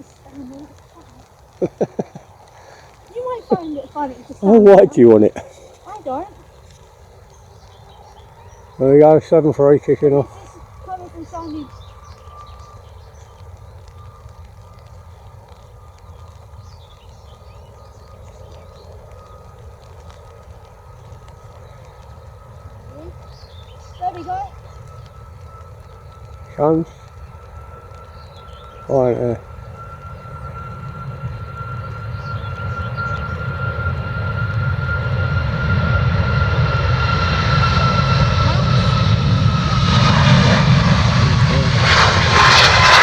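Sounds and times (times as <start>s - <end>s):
distant jet engines rumbling: 0.0s - 43.0s
small birds chirping: 0.0s - 43.0s.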